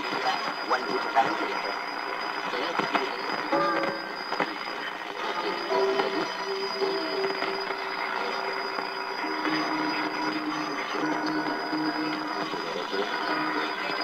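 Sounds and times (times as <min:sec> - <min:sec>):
mid-pitched radio tones: 0:00.0 - 0:14.0
radio static hiss: 0:00.0 - 0:14.0
steady high whistle: 0:00.0 - 0:14.0.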